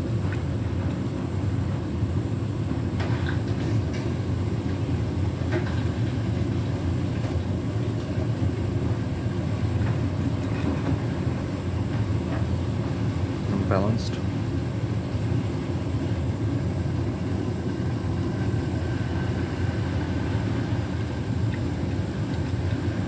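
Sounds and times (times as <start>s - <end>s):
washing machine drum rumbling: 0.0s - 23.0s.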